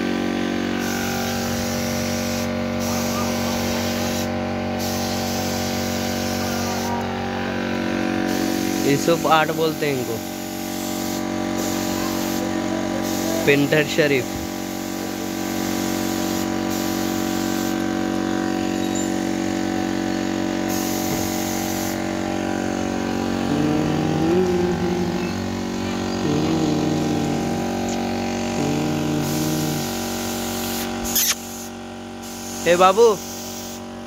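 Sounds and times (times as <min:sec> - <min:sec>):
air compressor hum: 0:00.0 - 0:34.0
paint spray hiss: 0:00.7 - 0:07.1, 0:08.3 - 0:13.5, 0:14.1 - 0:18.4, 0:19.2 - 0:33.9.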